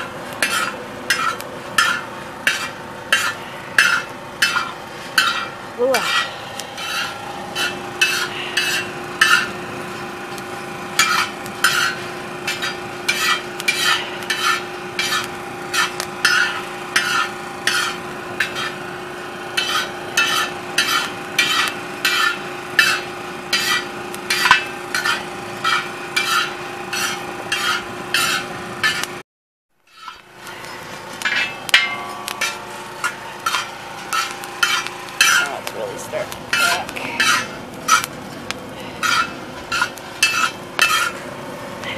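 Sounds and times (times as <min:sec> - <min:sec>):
skimmer scraping on griddle: 0:00.0 - 0:29.2, 0:29.8 - 0:41.9
steady hum: 0:00.0 - 0:29.2, 0:29.9 - 0:41.9.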